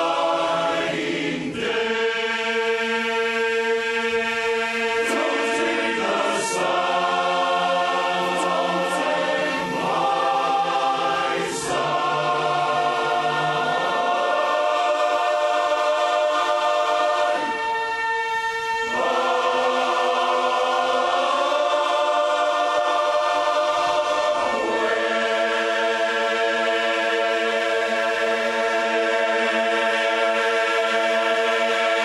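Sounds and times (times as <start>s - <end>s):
men's chorus singing a cappella: 0.0s - 17.7s, 18.8s - 32.0s.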